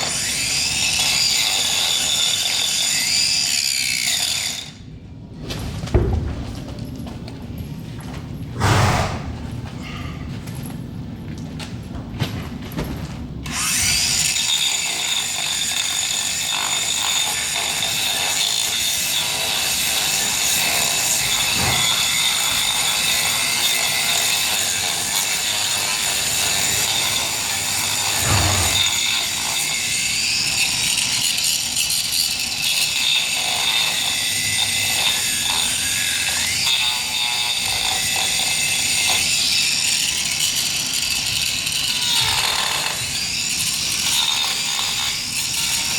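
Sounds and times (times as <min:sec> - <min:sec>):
angle grinder grinding hoof: 0:00.0 - 0:04.8, 0:08.0 - 0:10.8, 0:13.4 - 0:45.9.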